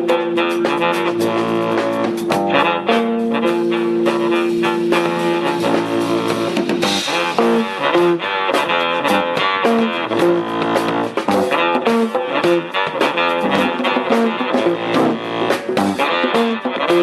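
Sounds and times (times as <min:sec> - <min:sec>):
blues jazz band music: 0:00.0 - 0:17.0.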